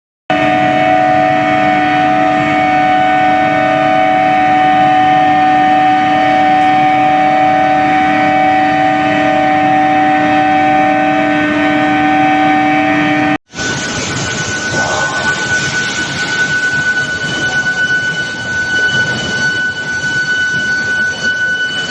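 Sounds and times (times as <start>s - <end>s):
induction furnace humming: 0.3s - 21.9s.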